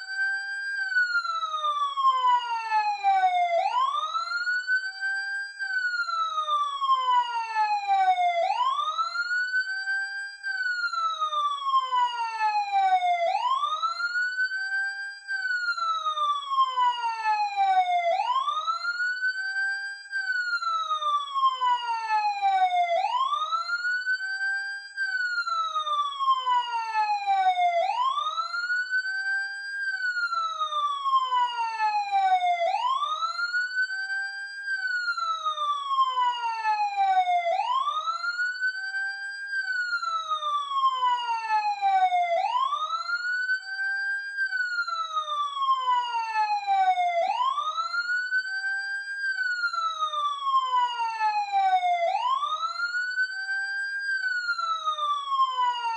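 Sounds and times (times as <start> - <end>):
emergency siren wailing: 0.0 - 55.9.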